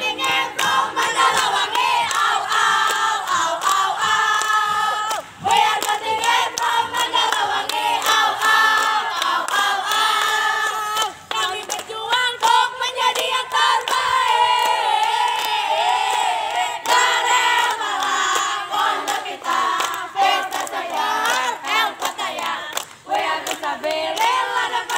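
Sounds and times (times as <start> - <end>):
group of women chanting and singing: 0.0 - 24.9
hands clapping: 0.0 - 24.9.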